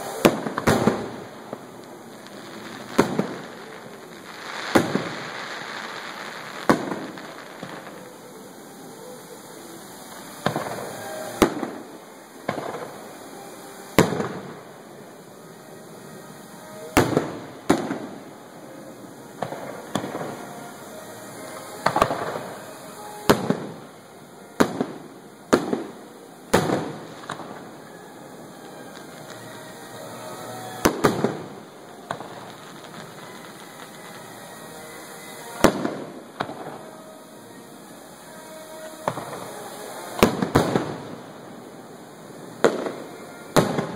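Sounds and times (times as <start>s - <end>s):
firework shells bursting: 0.0s - 24.0s, 24.6s - 41.3s, 42.3s - 43.9s.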